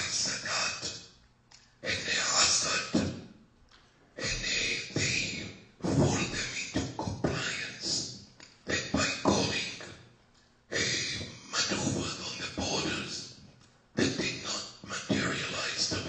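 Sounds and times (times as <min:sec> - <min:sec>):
man speaking close to microphone: 0:00.0 - 0:01.0, 0:01.8 - 0:03.2, 0:04.2 - 0:10.0, 0:10.7 - 0:16.0.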